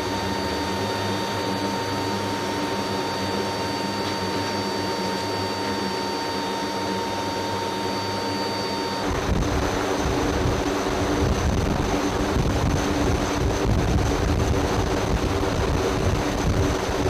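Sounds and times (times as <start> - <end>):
turbine engines whining: 0.0 - 17.0.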